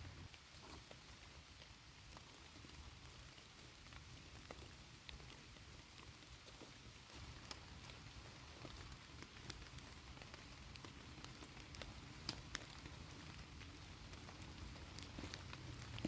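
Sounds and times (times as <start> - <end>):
faint rain hiss: 0.0 - 16.0
small ticks and crackles: 0.0 - 16.0.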